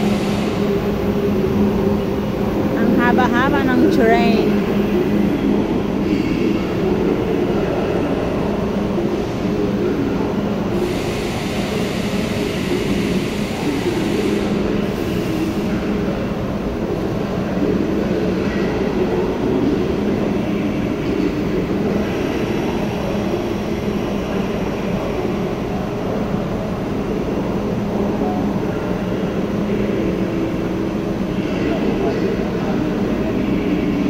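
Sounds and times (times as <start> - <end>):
electric train humming: 0.0 - 34.0.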